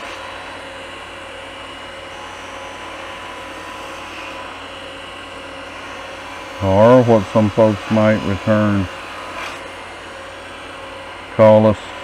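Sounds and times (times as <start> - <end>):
wood lathe humming: 0.0 - 12.0.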